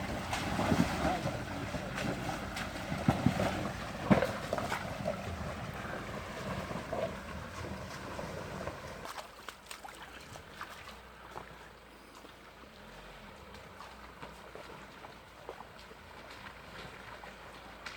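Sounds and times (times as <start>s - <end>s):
tyres rolling over stones and water: 0.0s - 17.9s.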